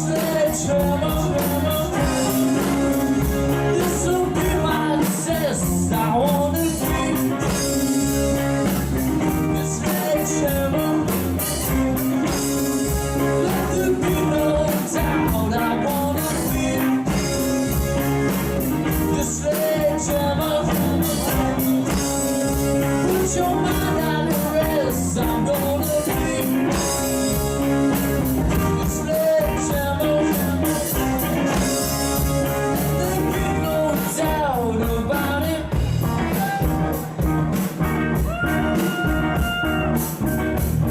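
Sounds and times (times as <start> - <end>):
drum kit beat: 0.0 - 40.9
electric bass: 0.0 - 40.9
electric guitar: 0.0 - 40.9.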